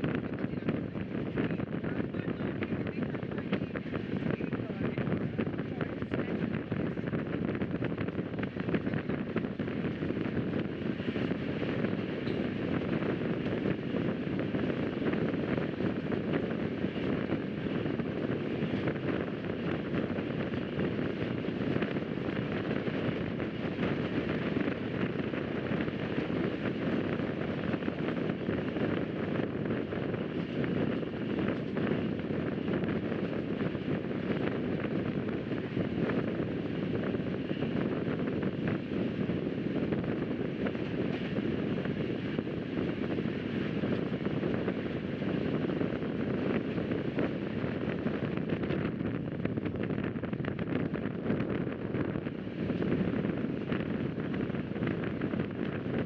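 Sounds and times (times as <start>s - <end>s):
train wheels rumbling on track: 0.0s - 56.0s
wind noise: 0.0s - 56.0s.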